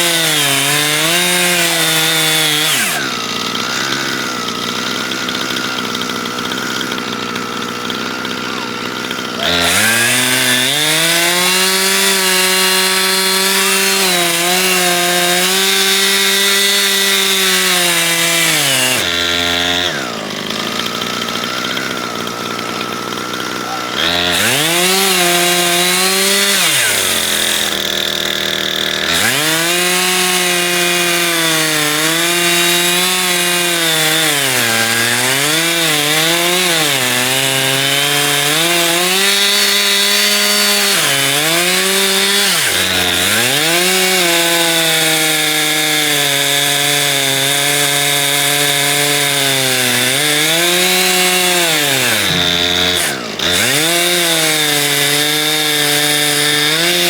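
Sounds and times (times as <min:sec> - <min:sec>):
chainsaw ripping a log: 0:00.0 - 0:57.0.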